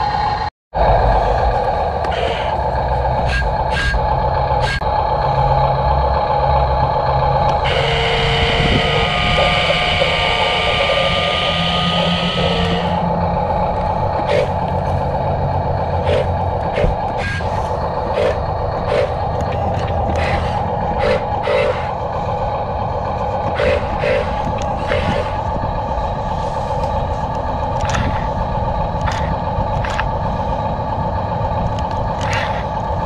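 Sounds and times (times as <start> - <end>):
electric motor and gears whining: 0.0 - 33.0
steady hum: 0.0 - 33.0.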